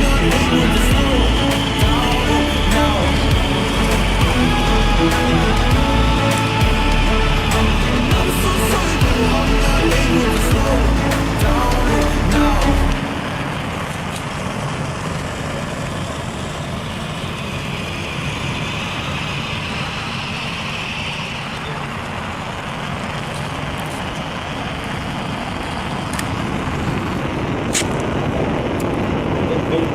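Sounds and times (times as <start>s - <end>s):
small jet engine rushing: 0.0s - 29.9s.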